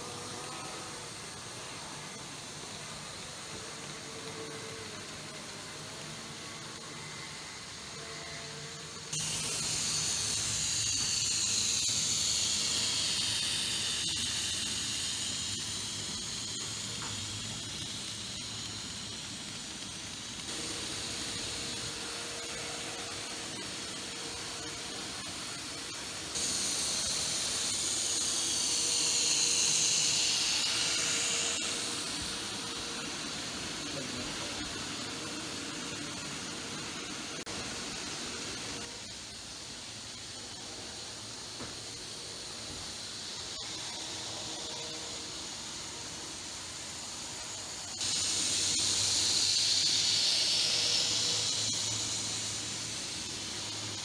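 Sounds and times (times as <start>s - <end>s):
model train whining: 0.0s - 54.0s.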